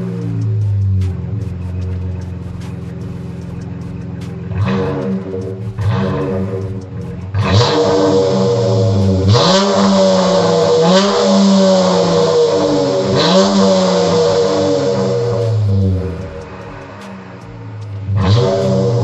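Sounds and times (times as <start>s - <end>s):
car exhaust idling and revving: 0.0s - 19.0s.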